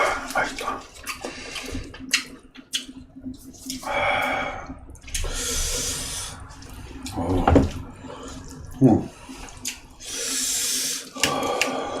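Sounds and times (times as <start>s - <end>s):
wet eating smacking: 0.0s - 12.0s.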